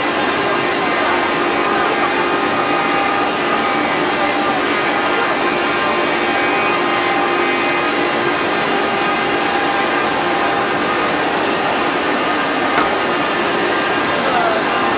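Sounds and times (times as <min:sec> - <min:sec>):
router cutting wood: 0:00.0 - 0:14.9
router spindle whine: 0:00.0 - 0:14.9.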